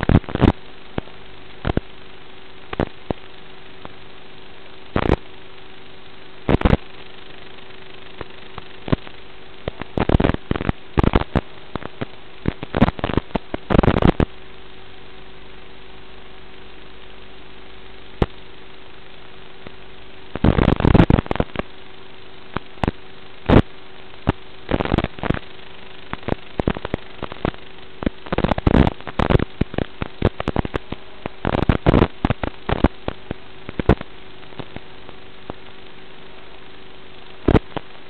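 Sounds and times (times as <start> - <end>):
faint hum: 0.0 - 38.0
radio static hiss: 0.0 - 38.0
sharp crackling bursts: 0.0 - 38.0.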